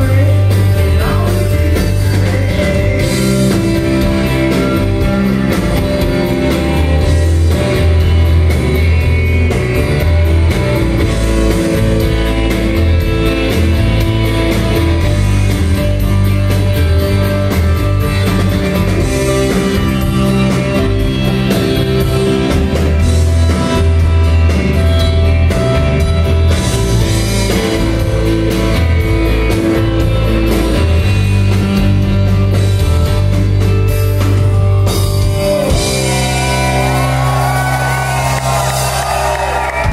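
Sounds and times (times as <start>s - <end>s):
drum kit: 0.0s - 39.9s
electric bass: 0.0s - 39.9s
live rock band: 0.0s - 39.9s.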